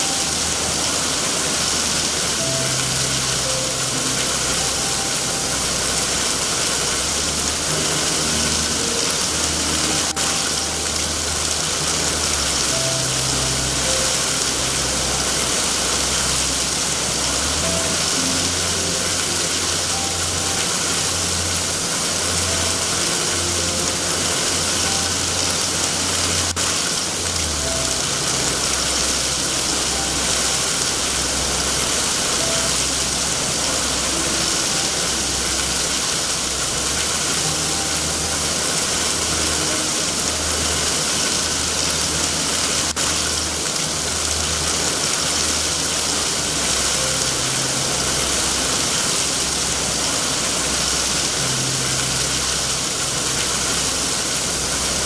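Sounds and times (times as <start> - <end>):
heavy rain hissing: 0.0 - 55.0
soft slow drone music: 0.0 - 55.0.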